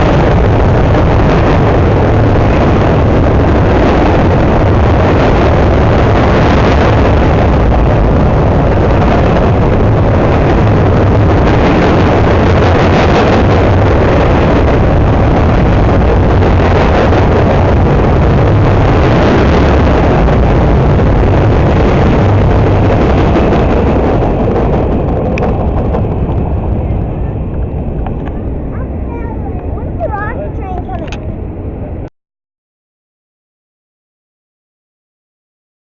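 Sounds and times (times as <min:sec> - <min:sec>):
train passing rumble: 0:00.0 - 0:32.1.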